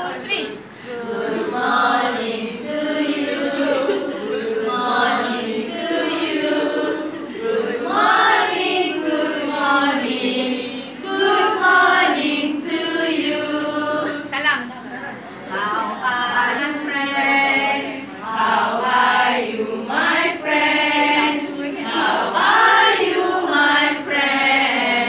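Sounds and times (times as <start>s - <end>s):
women singing: 0.0s - 14.4s, 15.4s - 25.0s.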